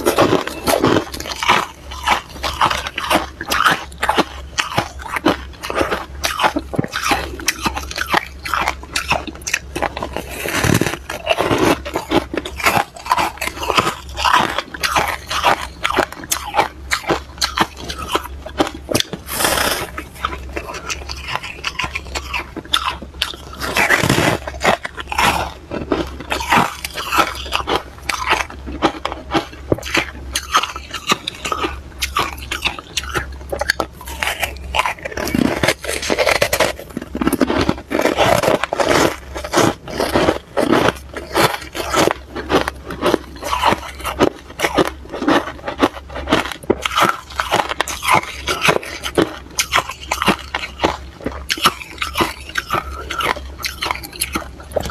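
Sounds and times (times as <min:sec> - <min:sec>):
crunching frost between teeth: 0:00.0 - 0:54.9
faint low hum: 0:00.0 - 0:54.9.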